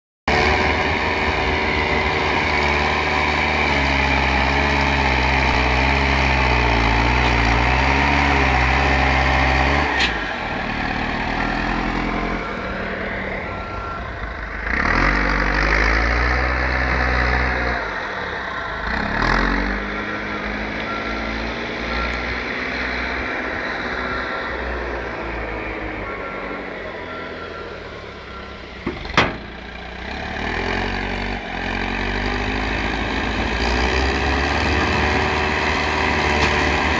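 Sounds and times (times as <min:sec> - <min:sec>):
diesel engine under load: 0:00.3 - 0:36.9.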